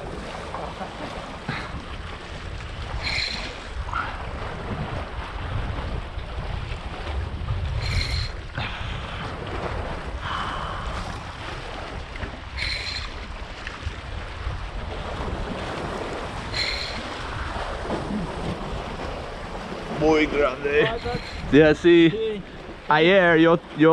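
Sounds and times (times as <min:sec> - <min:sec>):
waves washing against rocks: 0:00.0 - 0:23.9
wind buffeting microphone: 0:00.0 - 0:23.9.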